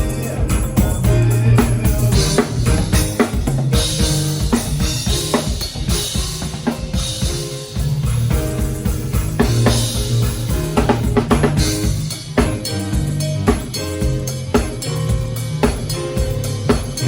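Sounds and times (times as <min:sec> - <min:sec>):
low held bass notes: 0:00.0 - 0:05.4, 0:07.8 - 0:17.0
drum kit playing a beat: 0:00.0 - 0:17.0.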